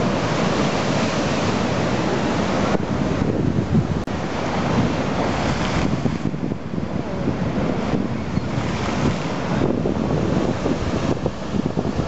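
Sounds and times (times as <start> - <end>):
churning surf: 0.0 - 12.0
waves crashing on sea wall: 0.0 - 12.0
wind rumbling on microphone: 0.0 - 12.0.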